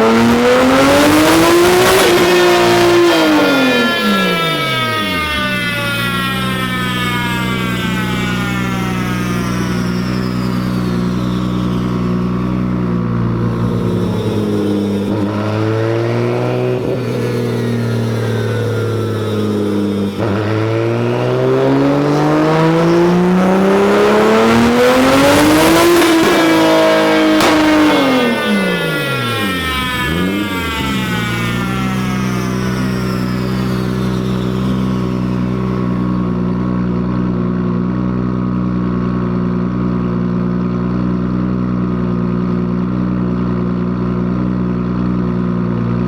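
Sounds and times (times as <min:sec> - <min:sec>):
car engine revving: 0:00.0 - 0:39.6.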